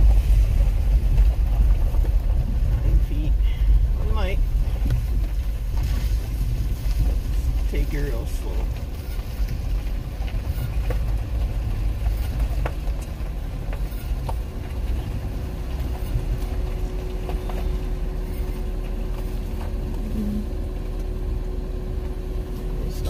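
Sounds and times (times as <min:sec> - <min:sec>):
road rumble: 0:00.0 - 0:23.0
steady hum: 0:00.0 - 0:23.0
truck engine in low gear: 0:00.0 - 0:23.0.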